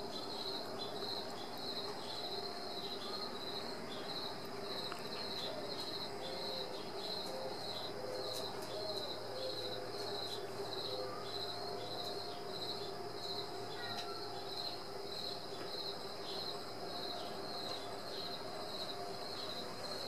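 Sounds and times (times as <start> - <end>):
faint steady hum: 0.0 - 20.0
insect chirping: 0.0 - 20.0.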